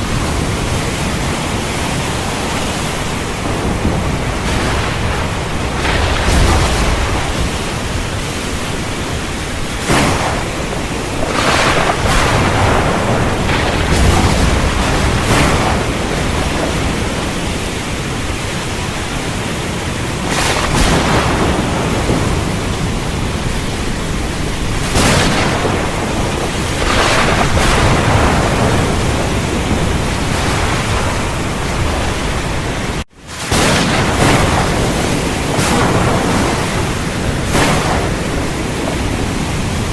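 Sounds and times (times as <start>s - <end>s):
heavy rain pouring: 0.0s - 39.9s
thunder cracks and rumbles: 0.0s - 39.9s.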